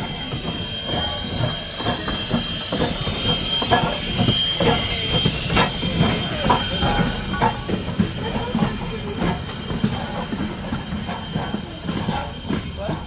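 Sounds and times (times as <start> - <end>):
clanks and knocks: 0.0 - 13.0
train coach rumbling on track: 0.0 - 13.0.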